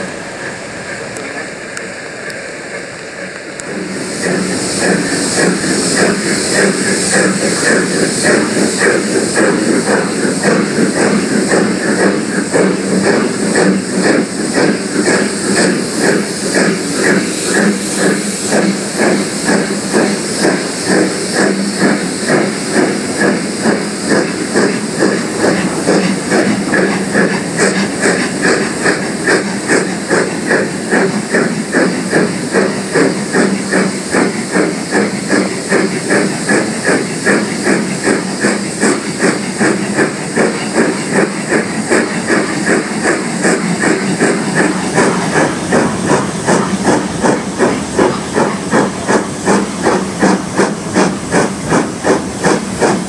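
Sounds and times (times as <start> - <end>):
hiss of steam: 0.0 - 53.0
steam locomotive exhaust chuffing: 0.0 - 53.0.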